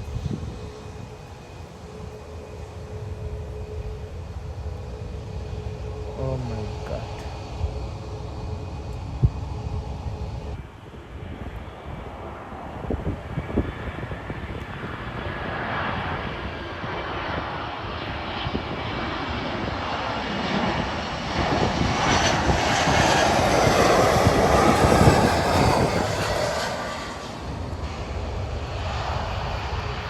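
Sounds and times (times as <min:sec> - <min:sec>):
jet airliner passing overhead: 0:00.0 - 0:30.0.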